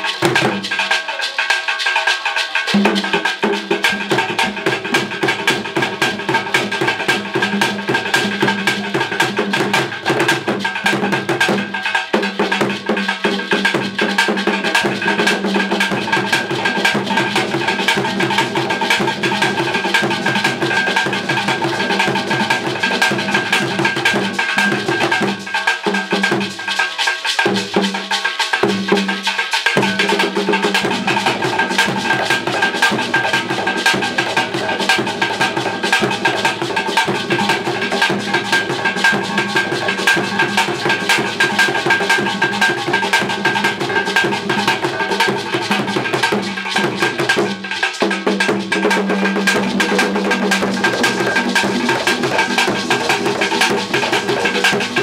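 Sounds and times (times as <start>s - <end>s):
hand drums fast rhythm: 0.0s - 55.0s.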